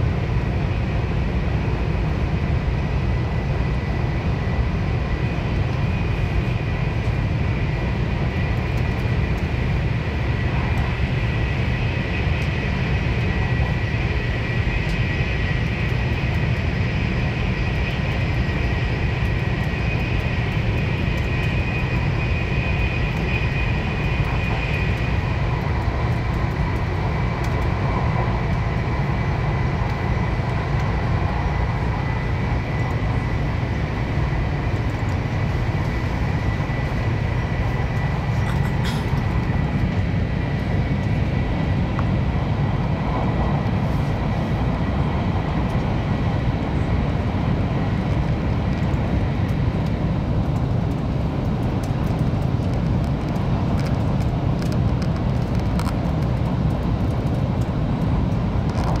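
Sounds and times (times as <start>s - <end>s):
train cabin low rumble: 0.0s - 59.0s.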